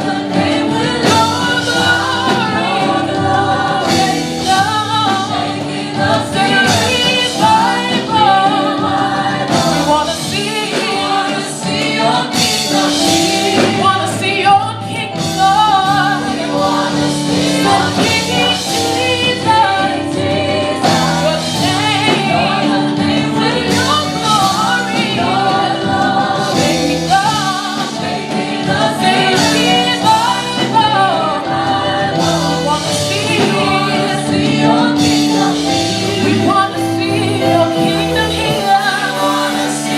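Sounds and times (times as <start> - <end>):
band accompaniment: 0.0 - 39.9
choir singing gospel: 0.0 - 39.9.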